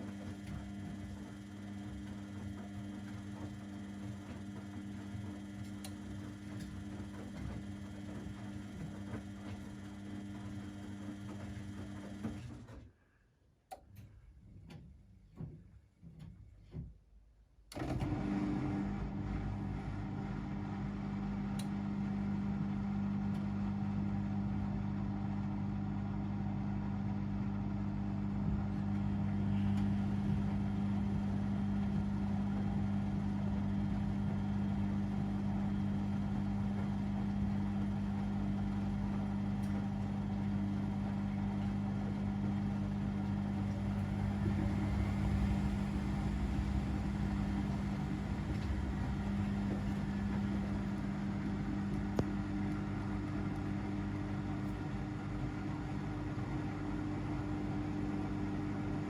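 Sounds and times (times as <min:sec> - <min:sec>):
laundry machine motor hum: 0:00.0 - 0:12.8, 0:17.7 - 0:59.0.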